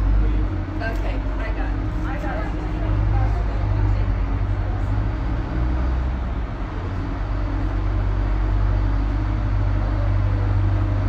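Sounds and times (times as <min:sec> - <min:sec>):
bus diesel engine idling: 0:00.0 - 0:11.0.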